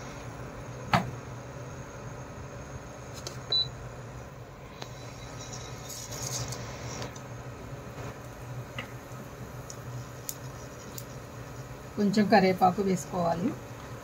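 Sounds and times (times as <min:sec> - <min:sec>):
seeds sizzling in oil: 0:00.0 - 0:14.0
steady low hum: 0:00.0 - 0:14.0.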